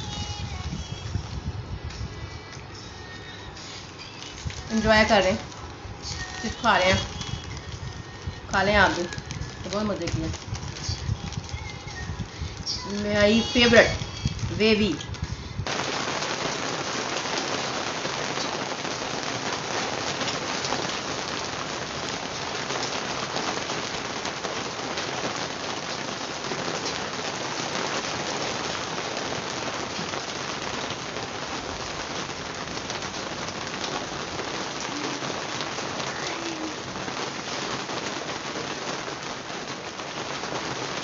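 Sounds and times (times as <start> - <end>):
rain splashing on rooftop: 0.0 - 41.0.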